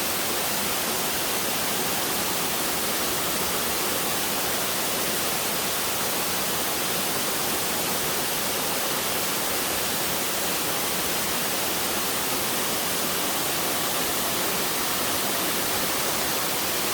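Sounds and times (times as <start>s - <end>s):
waterfall pouring into pool: 0.0s - 16.9s.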